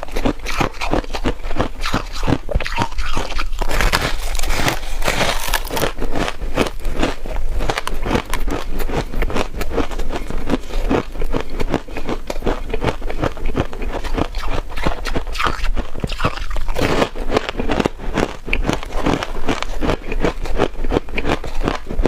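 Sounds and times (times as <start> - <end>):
frost being chewed crunching: 0.0 - 22.0.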